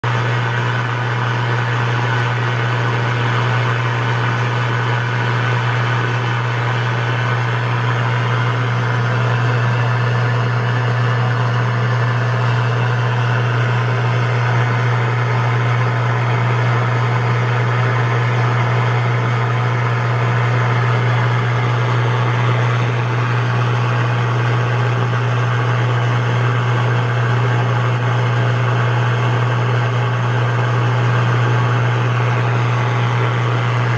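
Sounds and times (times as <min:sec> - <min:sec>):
loud low interference buzz: 0:00.0 - 0:33.9.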